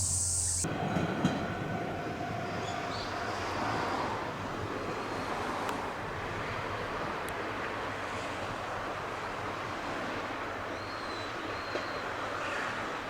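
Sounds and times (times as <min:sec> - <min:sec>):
moving train rushing: 0:00.0 - 0:10.6.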